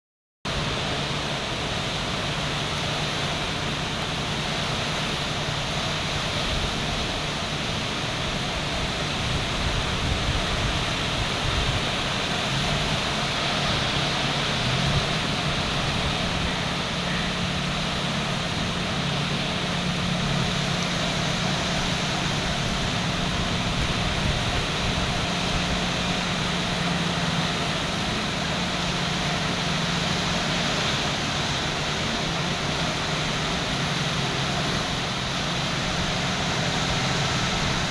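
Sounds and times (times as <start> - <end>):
boat engine hum: 0.5 - 37.9
wind and water noise: 0.5 - 37.9.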